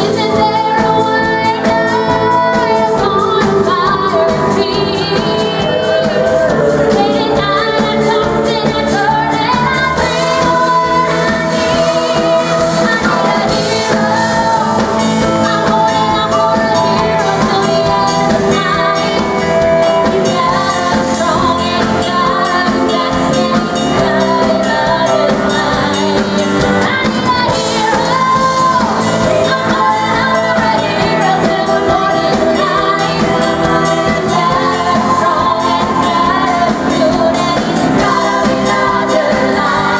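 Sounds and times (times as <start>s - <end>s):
live pop band playing: 0.0s - 39.9s
woman singing lead vocals: 0.0s - 39.9s.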